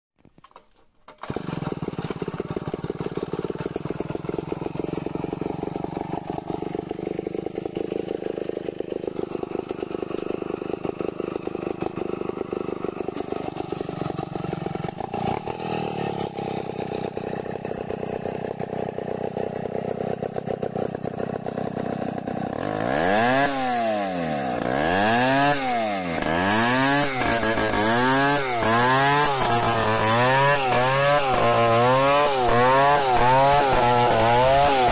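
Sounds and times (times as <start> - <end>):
chainsaw cutting log: 0.2 - 34.9.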